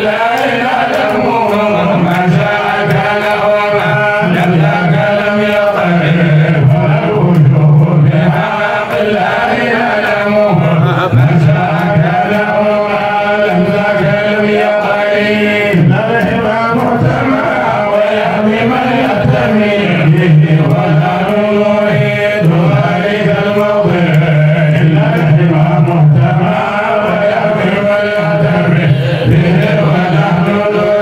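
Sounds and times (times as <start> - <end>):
man chanting into a microphone: 0.0 - 31.0.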